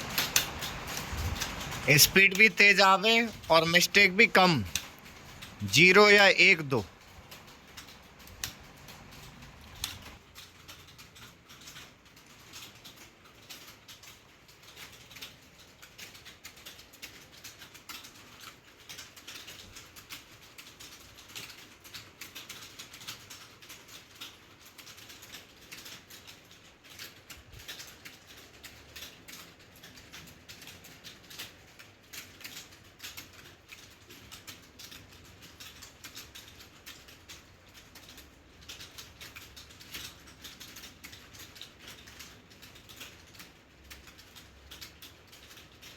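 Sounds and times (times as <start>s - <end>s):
fast keyboard typing: 0.0s - 45.9s.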